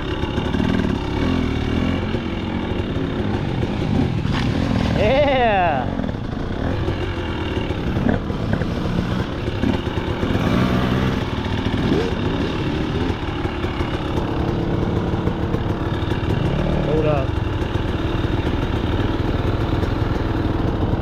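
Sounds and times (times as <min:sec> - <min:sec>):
dirt bike engine idling and revving: 0:00.0 - 0:21.0.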